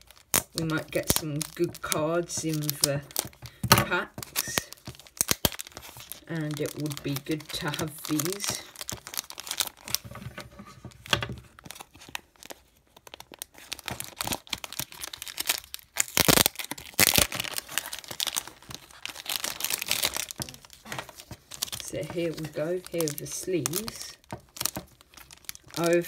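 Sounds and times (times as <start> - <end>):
plastic wrapping tearing and crinkling: 0.0 - 26.0.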